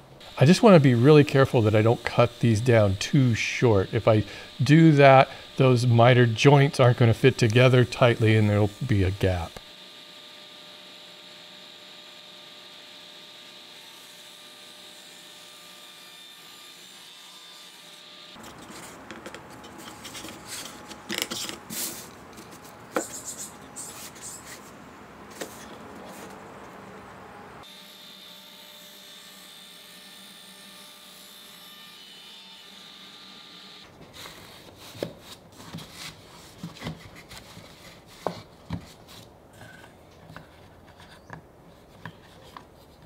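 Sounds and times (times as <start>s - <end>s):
workshop hum: 0.0s - 43.0s.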